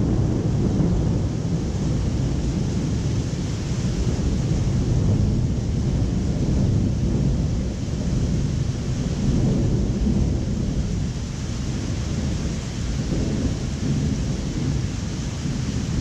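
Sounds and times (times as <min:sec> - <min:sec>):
rain hissing: 0:00.0 - 0:16.0
thunder rumbling: 0:00.0 - 0:16.0.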